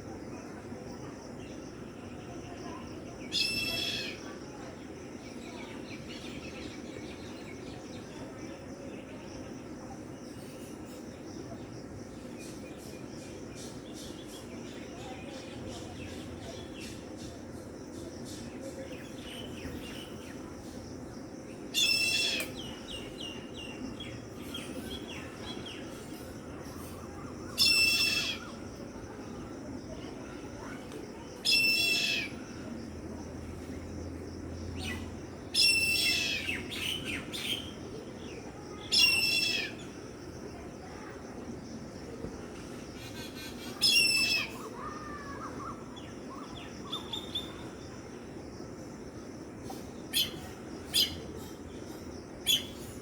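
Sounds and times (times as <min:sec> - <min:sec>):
steady low background noise: 0:00.0 - 0:53.0.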